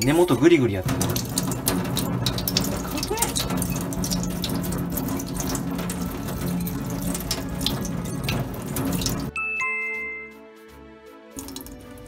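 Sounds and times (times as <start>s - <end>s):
tap water splashing into sink: 0.0s - 9.3s, 11.4s - 12.0s
background music: 0.0s - 12.0s.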